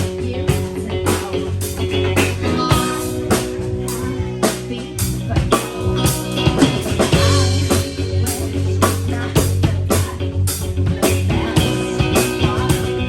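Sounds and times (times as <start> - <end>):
blues rock band playing: 0.0 - 13.0
drum kit beat: 0.0 - 13.0.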